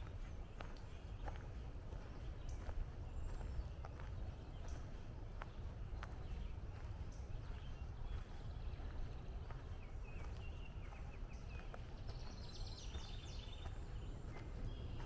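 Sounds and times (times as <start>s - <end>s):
birds singing and chirping: 0.1s - 15.0s.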